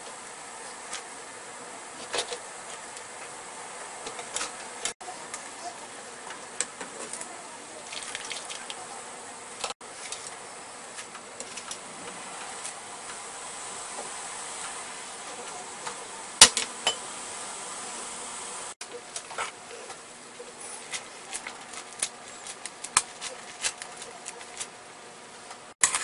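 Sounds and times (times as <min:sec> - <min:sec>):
broth boiling in a wok: 0:00.0 - 0:26.0.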